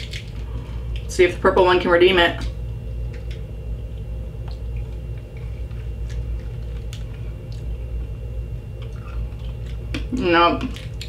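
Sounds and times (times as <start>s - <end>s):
hard candy being chewed: 0.0s - 1.1s, 3.0s - 11.0s
steady low hum: 0.0s - 11.0s.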